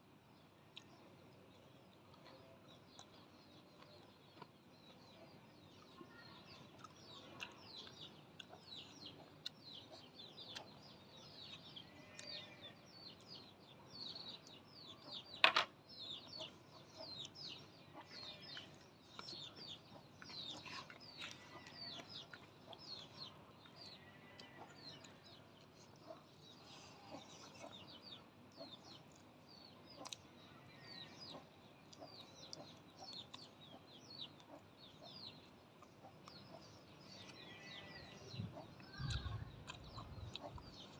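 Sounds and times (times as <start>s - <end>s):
small birds chirping: 0.0s - 40.9s
chickens clucking: 6.7s - 40.9s.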